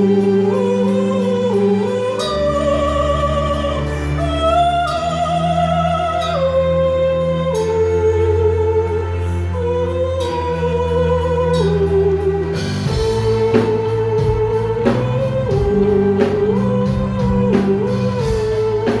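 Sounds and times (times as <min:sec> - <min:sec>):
slow melody of wavering notes: 0:00.0 - 0:19.0
sustained low bass notes: 0:00.0 - 0:19.0.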